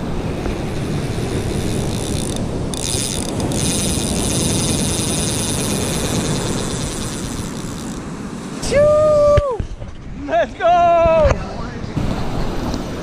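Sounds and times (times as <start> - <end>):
surf washing up beach: 0.0 - 2.8, 4.3 - 13.0
wind rumble on microphone: 0.0 - 13.0.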